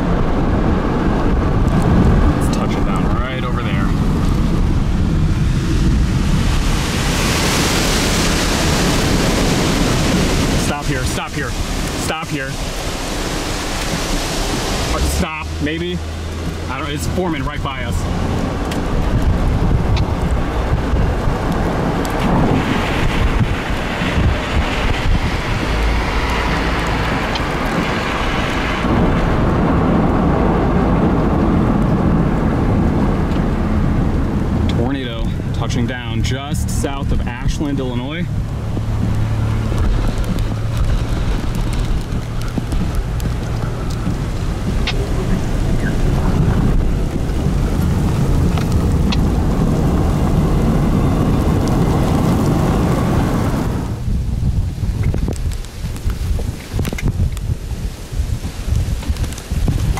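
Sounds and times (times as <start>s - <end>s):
wind and rain against a car: 0.0s - 59.9s
wind buffeting the microphone: 0.0s - 59.9s.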